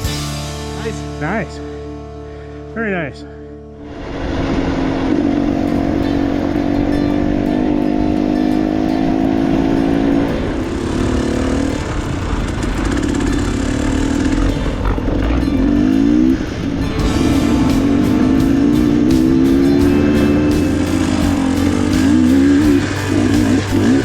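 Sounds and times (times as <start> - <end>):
dirt bike engine running: 0.0 - 2.6, 4.0 - 24.0
bike rumbling and clattering: 4.1 - 24.0.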